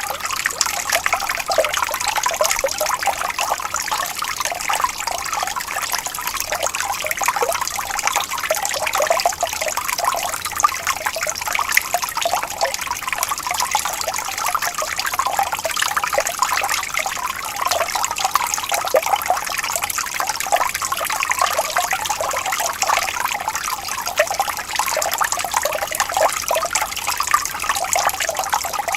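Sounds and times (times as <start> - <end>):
stream trickling over stones: 0.0 - 28.9.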